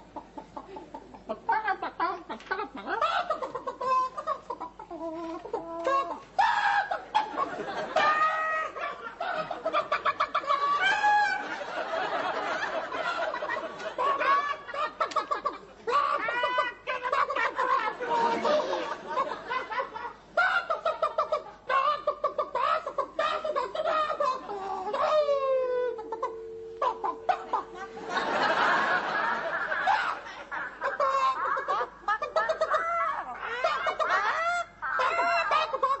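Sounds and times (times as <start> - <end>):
people squawking like chickens: 0.0 - 36.0
people laughing: 0.5 - 36.0.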